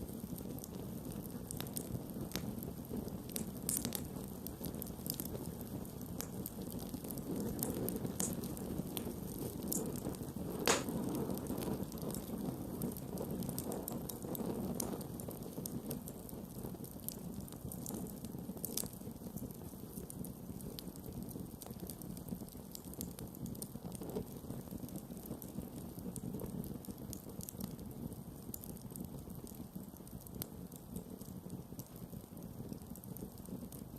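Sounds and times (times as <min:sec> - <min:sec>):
campfire flames rumbling: 0:00.0 - 0:33.9
fire crackling and popping: 0:00.0 - 0:33.9.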